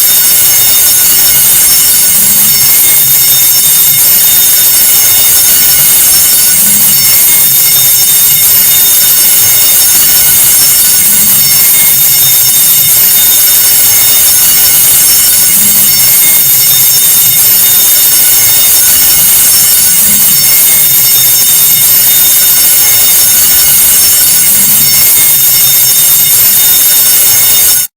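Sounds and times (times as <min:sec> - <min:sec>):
electric alarm bell ringing: 0:00.0 - 0:27.9.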